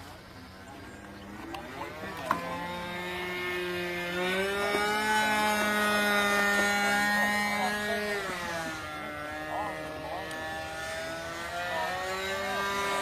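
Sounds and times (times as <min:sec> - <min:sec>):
small model engine running: 0:00.0 - 0:13.0.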